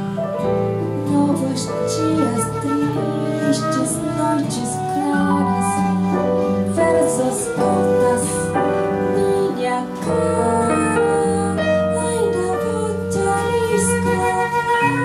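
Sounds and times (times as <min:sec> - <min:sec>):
nylon-string guitar: 0:00.0 - 0:15.0
piano: 0:00.0 - 0:15.0
flute melody with vibrato: 0:01.0 - 0:15.0.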